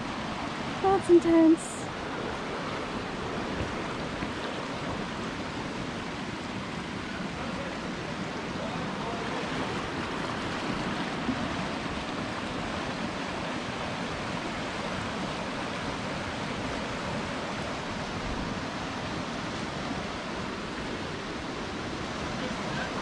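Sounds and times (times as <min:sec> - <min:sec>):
creek rushing: 0:00.0 - 0:23.0.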